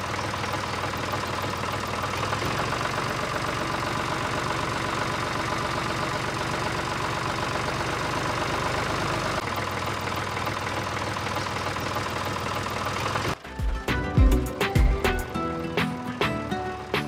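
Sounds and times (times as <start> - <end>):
diesel tractor engine idling: 0.0 - 17.0.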